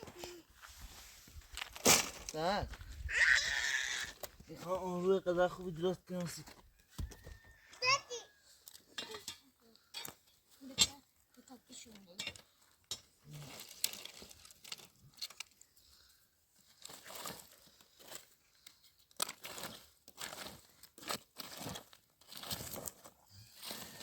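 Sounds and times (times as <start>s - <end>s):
crinkling and rustling by hand: 0.0s - 7.7s, 8.5s - 24.0s.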